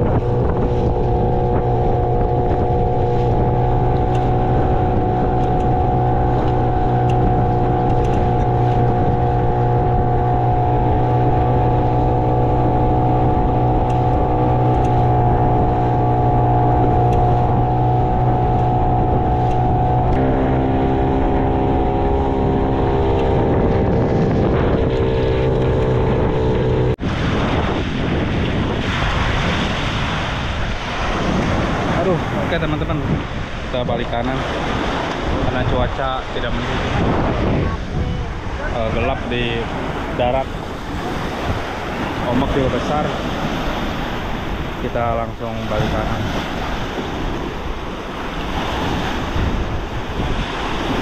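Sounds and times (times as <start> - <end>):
outboard motor running: 0.0 - 51.0
waves washing on beach: 0.0 - 51.0.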